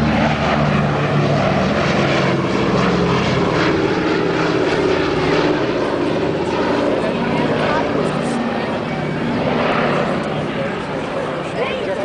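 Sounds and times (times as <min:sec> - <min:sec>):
propeller plane droning past: 0:00.0 - 0:12.0.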